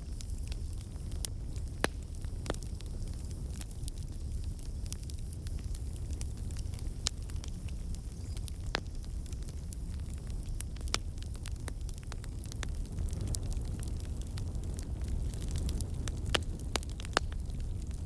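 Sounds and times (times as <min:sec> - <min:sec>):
fireplace fire crackling: 0:00.0 - 0:18.0
loud fire pops: 0:00.0 - 0:18.0
low fire rumble: 0:00.0 - 0:18.0.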